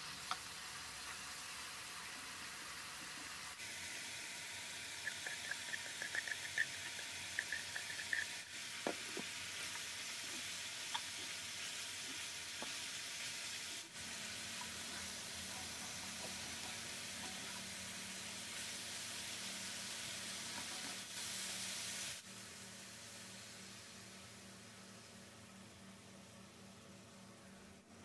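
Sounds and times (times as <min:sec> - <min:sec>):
noodles sizzling in a pan: 0:00.0 - 0:28.0.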